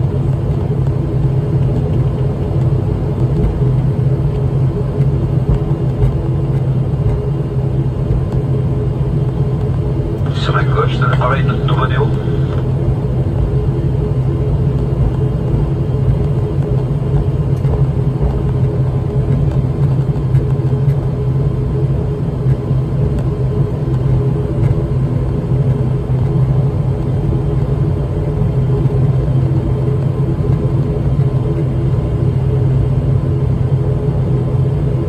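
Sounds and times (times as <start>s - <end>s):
steady hum: 0.0s - 35.0s
turboprop engine droning: 0.0s - 35.0s.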